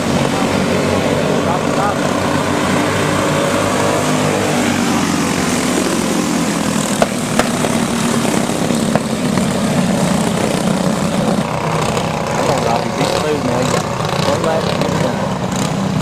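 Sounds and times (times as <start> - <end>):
go-kart engines buzzing: 0.0 - 16.0.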